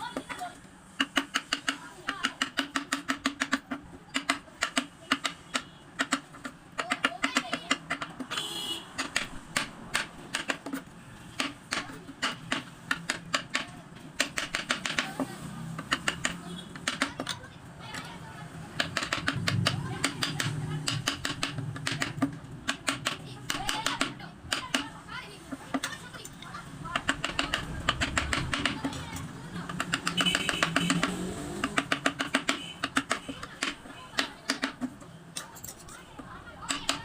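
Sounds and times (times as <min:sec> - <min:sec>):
woodworking taps and clicks: 0:01.0 - 0:18.1, 0:18.8 - 0:37.0.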